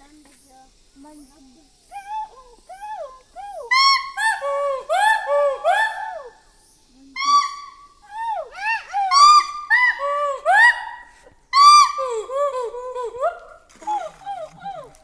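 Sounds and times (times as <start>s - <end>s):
monkey whooping calls: 1.9s - 6.4s, 7.2s - 15.0s.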